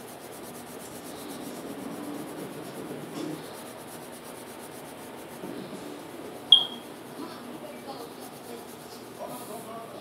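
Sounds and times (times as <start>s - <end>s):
pencil shading on paper: 0.0s - 9.8s.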